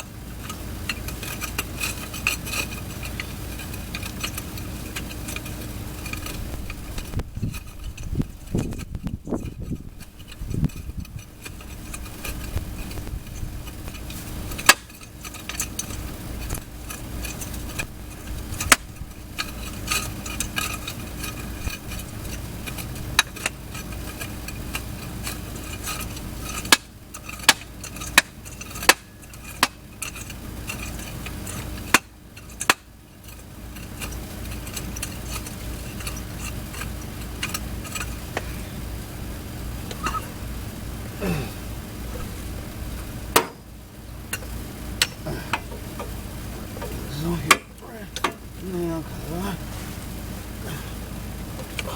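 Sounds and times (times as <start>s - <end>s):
steady low hum: 0.0s - 51.9s
metal tools clinking and knocking: 0.4s - 38.7s, 43.0s - 43.7s, 44.3s - 49.8s.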